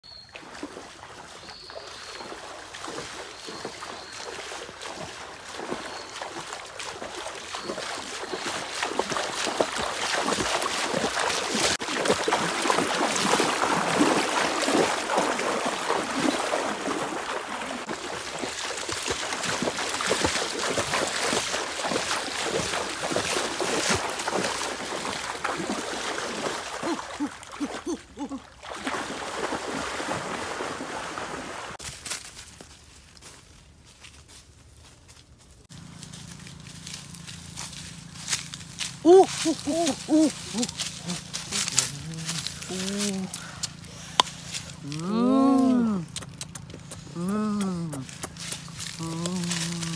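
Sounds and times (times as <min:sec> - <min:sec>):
feet splashing through stream: 0:00.1 - 0:33.4, 0:35.6 - 0:49.9.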